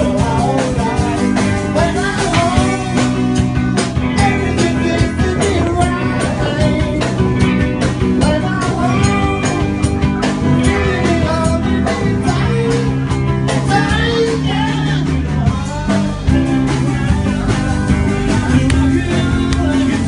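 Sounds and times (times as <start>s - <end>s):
rock music with guitar and drums: 0.0s - 20.0s.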